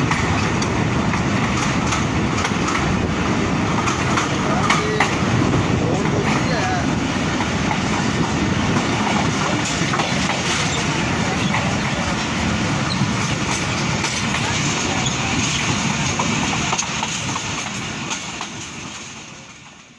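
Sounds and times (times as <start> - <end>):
train rumbling and rattling on track: 0.0 - 19.9
train wheels clicking: 0.0 - 19.9.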